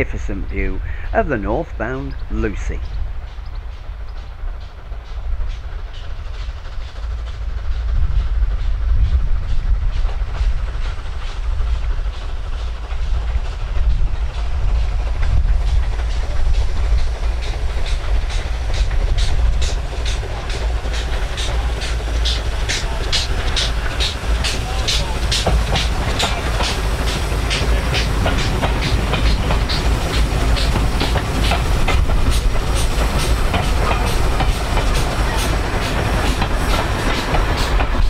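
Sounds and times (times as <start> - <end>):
low rumble of train: 0.0 - 38.0
steam engine exhaust beats: 0.0 - 38.0.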